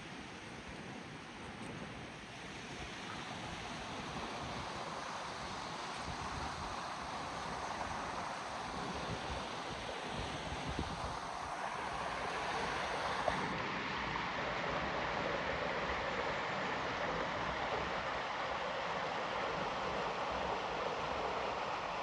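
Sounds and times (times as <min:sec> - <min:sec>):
river flowing: 0:00.1 - 0:22.0.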